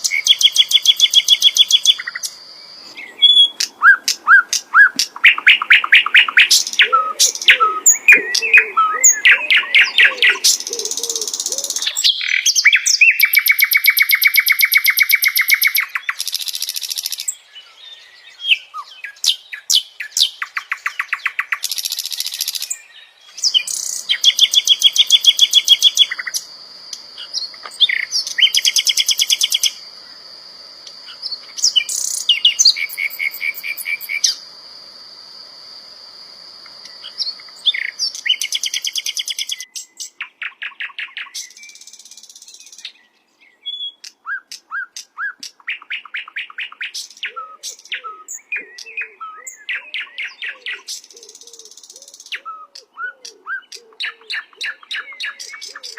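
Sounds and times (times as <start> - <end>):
bird singing chirps and trills: 0.0 - 30.2, 30.9 - 34.5, 36.8 - 55.9.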